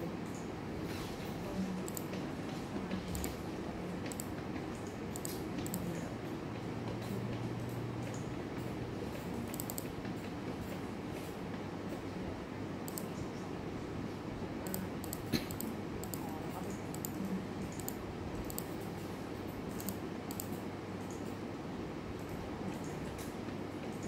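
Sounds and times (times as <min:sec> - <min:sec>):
room noise: 0:00.0 - 0:24.0
computer mice and keyboards clicking: 0:00.2 - 0:12.0, 0:12.8 - 0:13.4, 0:14.6 - 0:21.4, 0:22.1 - 0:24.0.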